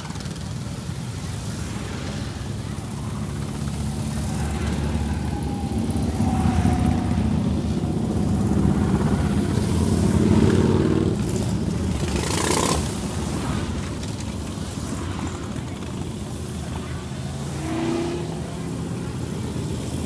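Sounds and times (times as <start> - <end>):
motorcycles riding past: 0.0 - 20.0.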